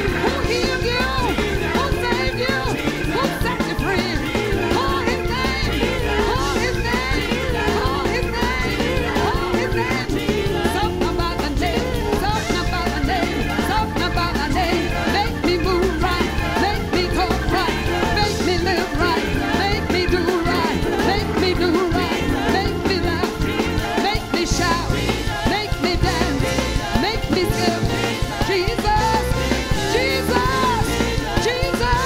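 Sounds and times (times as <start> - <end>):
choir singing: 0.0 - 32.0
gospel church band music: 0.0 - 32.0.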